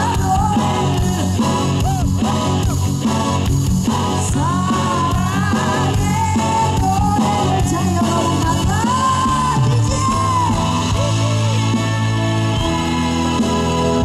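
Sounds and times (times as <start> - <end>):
live band music: 0.0 - 14.0.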